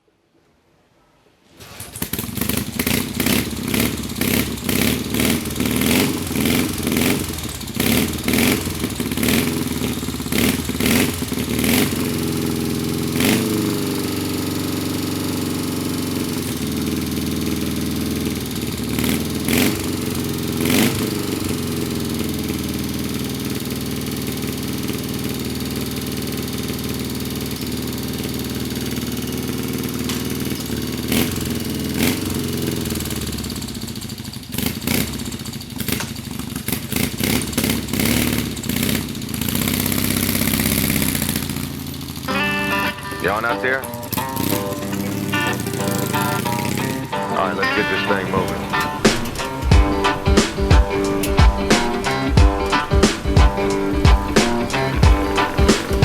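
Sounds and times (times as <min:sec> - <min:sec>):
motorcycle engine revving: 0:01.6 - 0:56.0
motorcycle engine idling: 0:02.0 - 0:56.0.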